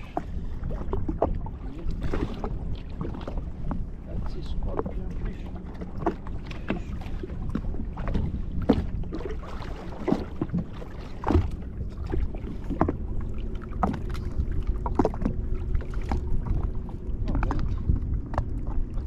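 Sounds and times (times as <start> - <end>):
steady low rumble: 0.0 - 19.0
water slapping against hull: 0.0 - 19.0.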